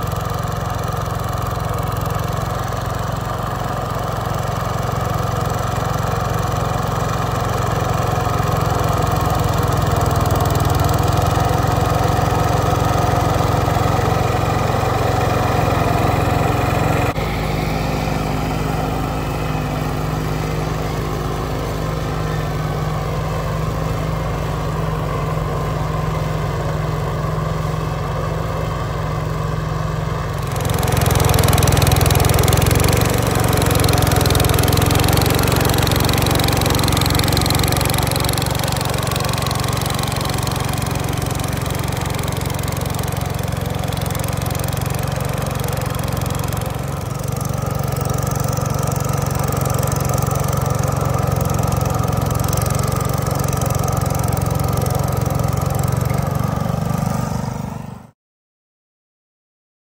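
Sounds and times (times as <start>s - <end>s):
garden tractor engines under load: 0.0s - 58.1s.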